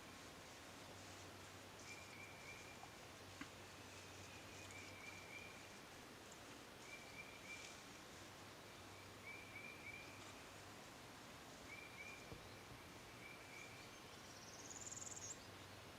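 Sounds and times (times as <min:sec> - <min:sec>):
steady hiss: 0:00.0 - 0:15.4.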